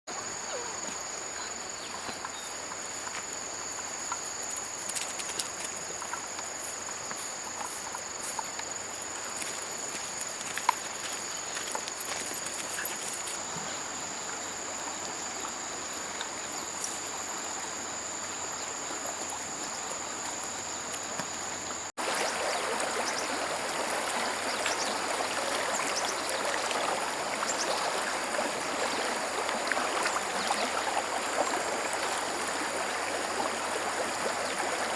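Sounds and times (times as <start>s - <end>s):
stream running: 0.1s - 34.9s.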